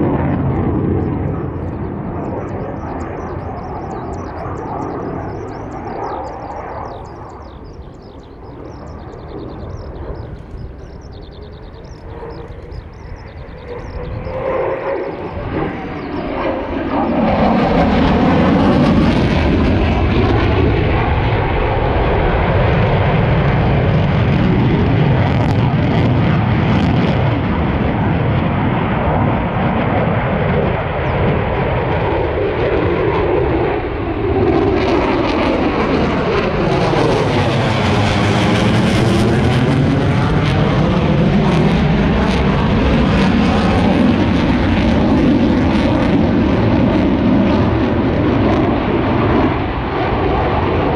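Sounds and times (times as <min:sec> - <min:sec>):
military aircraft flying past: 0:00.0 - 0:50.9.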